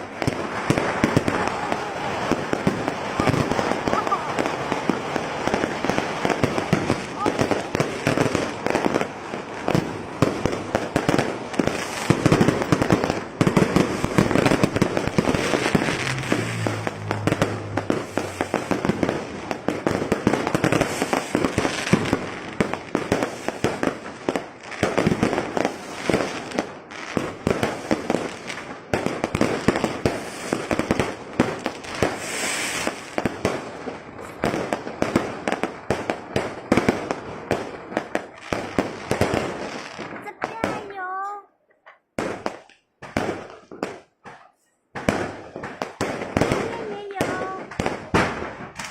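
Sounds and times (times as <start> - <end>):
firecracker pops crackling: 0.0 - 41.4, 42.2 - 48.9
fireworks bangs: 0.0 - 41.5, 42.2 - 48.9.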